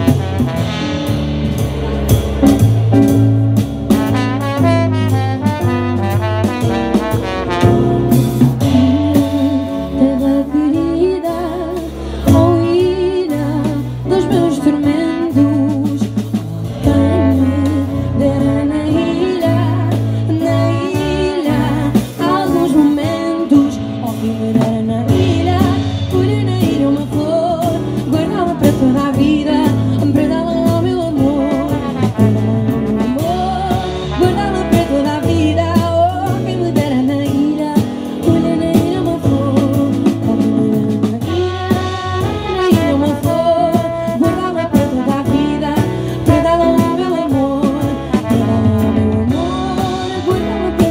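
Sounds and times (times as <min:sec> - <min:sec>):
live band playing: 0:00.0 - 0:50.9.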